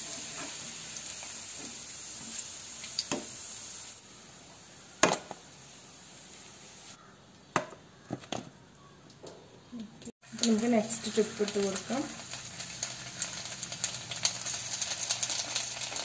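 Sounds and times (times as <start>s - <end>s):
hot oil sizzling: 0.0s - 7.0s, 10.1s - 16.0s.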